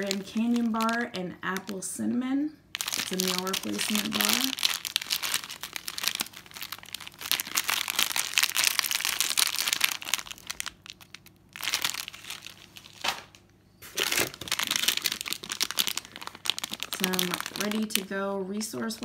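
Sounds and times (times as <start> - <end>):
plastic packaging crinkling: 0.0 - 1.9, 2.7 - 19.0.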